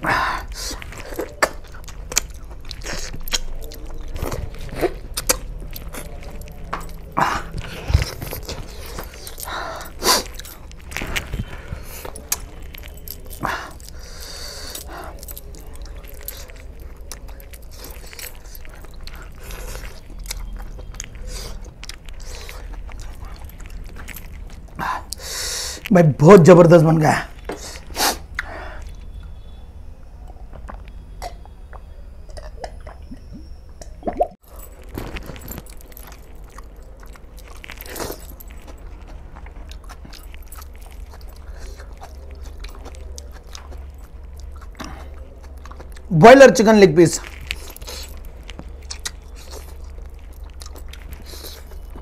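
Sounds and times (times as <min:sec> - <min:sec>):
man chewing and lip-smacking: 0:00.0 - 0:25.9, 0:30.2 - 0:46.4, 0:47.2 - 0:52.0.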